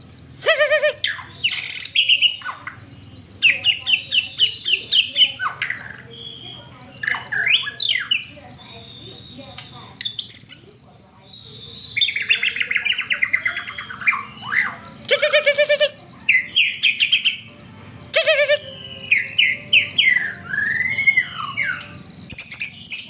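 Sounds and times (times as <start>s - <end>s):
songbird singing varied song: 0.0s - 23.0s.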